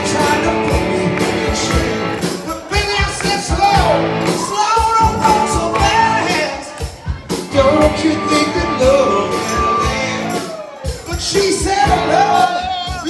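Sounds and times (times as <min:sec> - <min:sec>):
live rock band playing: 0:00.0 - 0:13.0
man singing lead: 0:00.0 - 0:13.0.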